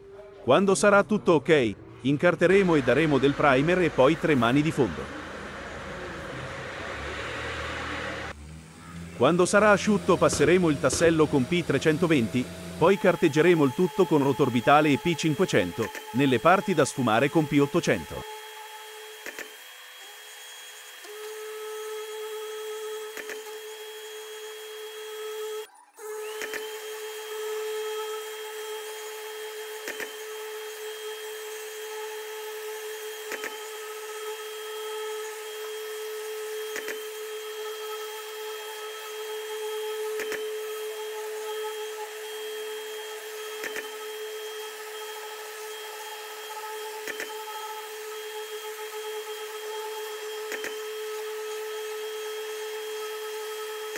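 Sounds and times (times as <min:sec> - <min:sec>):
orbital sander whining: 0:02.3 - 0:53.9.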